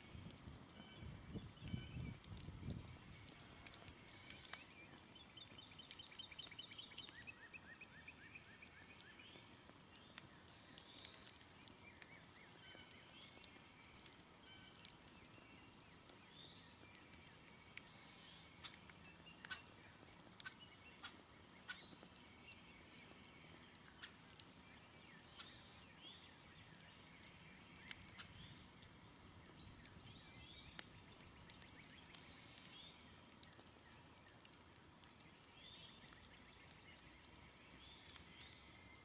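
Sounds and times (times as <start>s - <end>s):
campfire crackles and pops: 0.0s - 39.0s
birds singing: 0.3s - 39.0s.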